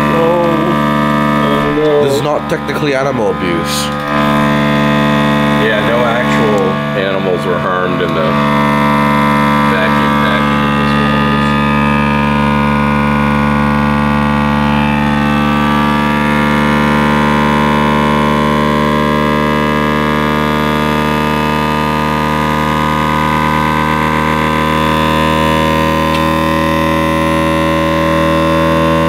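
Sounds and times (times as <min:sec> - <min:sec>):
vacuum sealer pump humming: 0:00.0 - 0:29.0.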